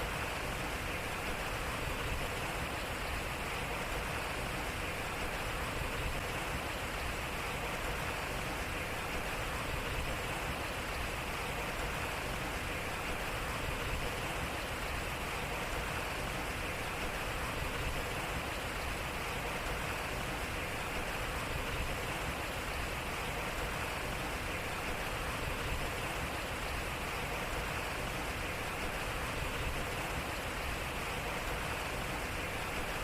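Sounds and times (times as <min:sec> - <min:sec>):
water splashing at waterwheel: 0:00.0 - 0:33.0.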